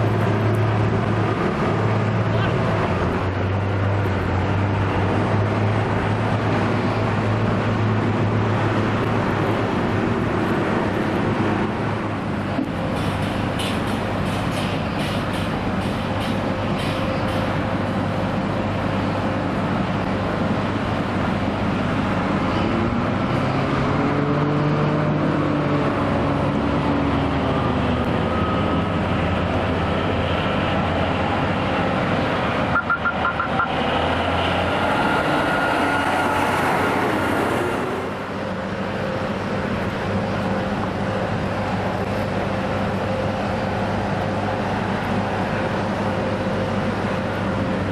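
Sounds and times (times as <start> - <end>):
heavy truck engine drone: 0.0 - 47.9.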